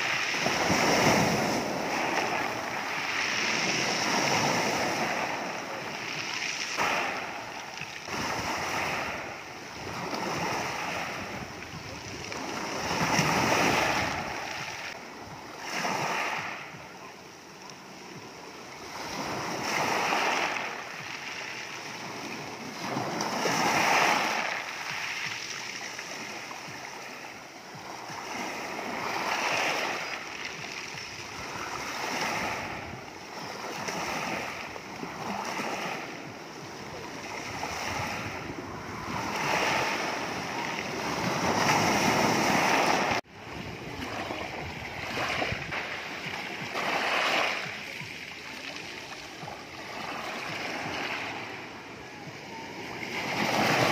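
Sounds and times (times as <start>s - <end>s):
waves breaking on pebble beach: 0.0s - 53.9s.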